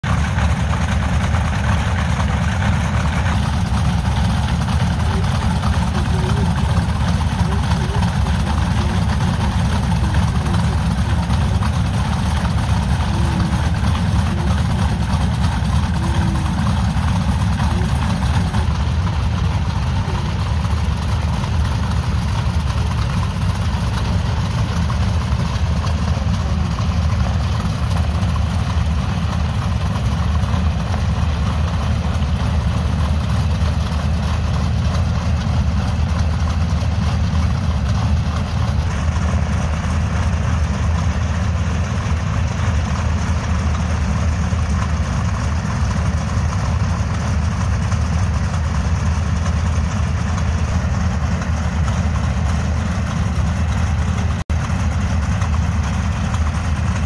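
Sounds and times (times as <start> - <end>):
piston aircraft engines running: 0.0 - 57.0.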